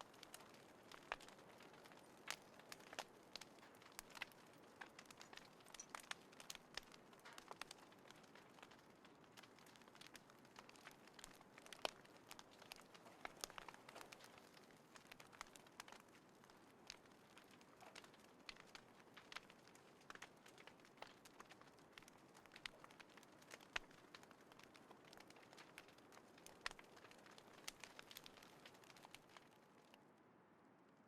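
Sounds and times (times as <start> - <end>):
soft fire hiss: 0.0 - 30.0
wood fire crackling and popping: 0.0 - 30.0.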